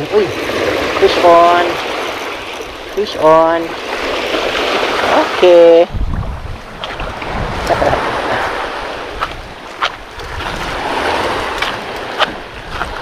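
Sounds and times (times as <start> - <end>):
waves washing over pebbles: 0.0 - 13.0
wind on microphone: 0.0 - 13.0.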